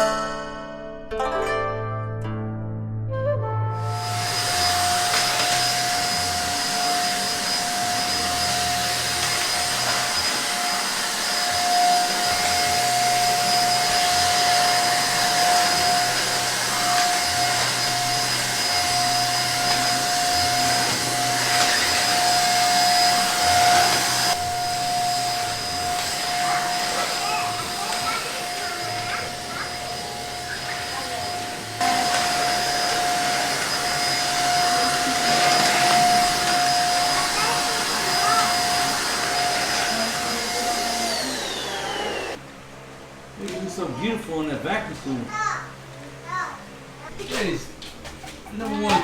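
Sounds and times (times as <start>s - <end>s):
vacuum cleaner running: 3.8s - 45.0s.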